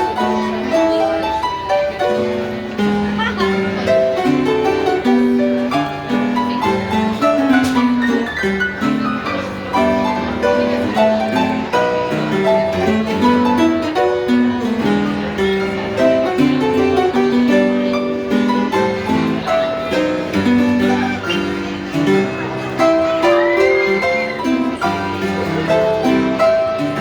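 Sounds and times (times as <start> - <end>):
plucked melodic notes: 0.0 - 27.0.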